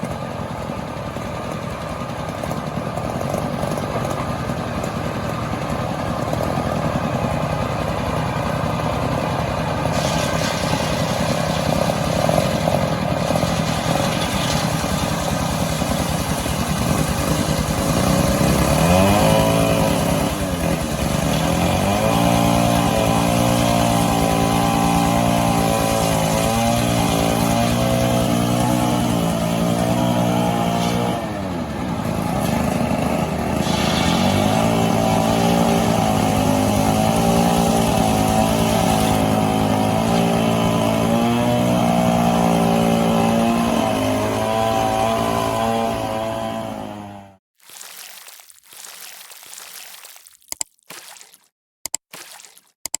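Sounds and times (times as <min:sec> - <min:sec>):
chainsaw running at high revs: 0:00.0 - 0:47.4.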